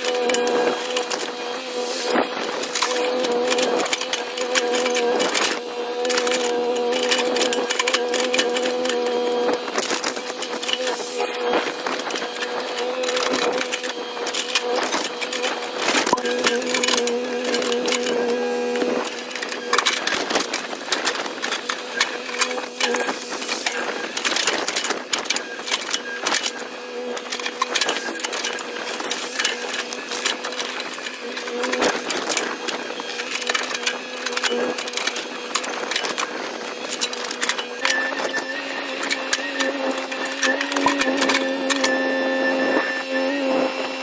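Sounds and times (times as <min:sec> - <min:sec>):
excavator engine hum: 0:00.0 - 0:44.0.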